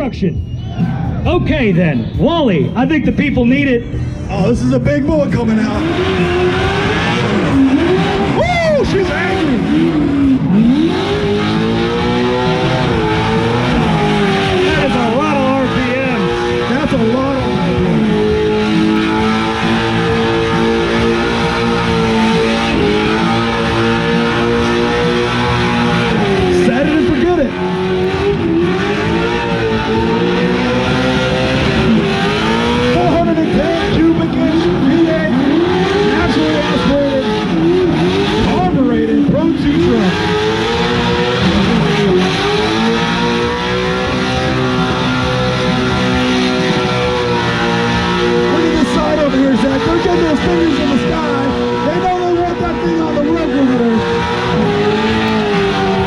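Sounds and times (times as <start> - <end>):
engine revving at high rpm: 3.9 - 56.0
tires spinning in place: 4.6 - 56.0.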